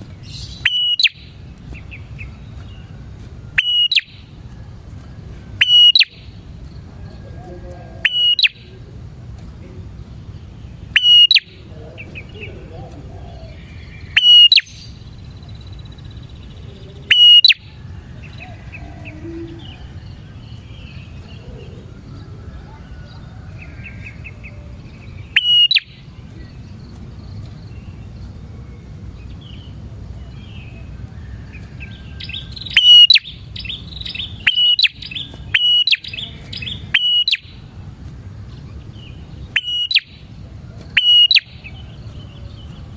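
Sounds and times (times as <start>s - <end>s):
faint chirps of other birds: 0.0s - 42.9s
low steady background noise: 0.0s - 42.9s
sharp bird calls: 0.0s - 42.9s.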